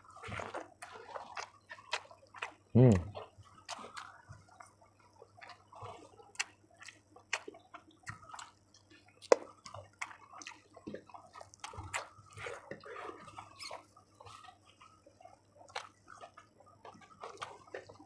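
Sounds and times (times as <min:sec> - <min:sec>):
wet eating sounds: 0:00.0 - 0:18.0.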